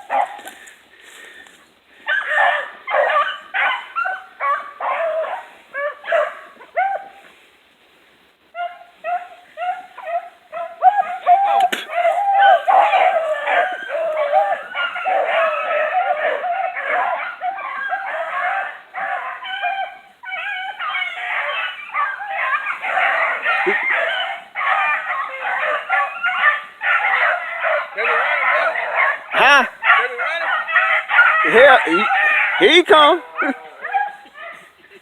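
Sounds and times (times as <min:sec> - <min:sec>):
hounds baying and barking: 0:00.0 - 0:00.7, 0:02.0 - 0:07.3, 0:08.5 - 0:35.0.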